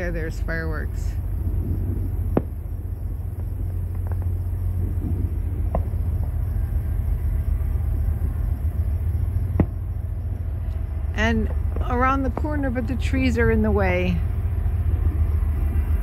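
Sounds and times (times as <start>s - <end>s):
distant fireworks popping: 0.0s - 16.0s
distant train rumble: 0.0s - 16.0s.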